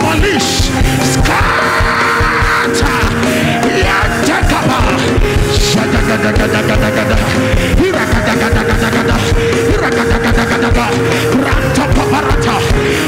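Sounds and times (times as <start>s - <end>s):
church band music: 0.0s - 13.0s
congregation praying and shouting: 0.0s - 13.0s.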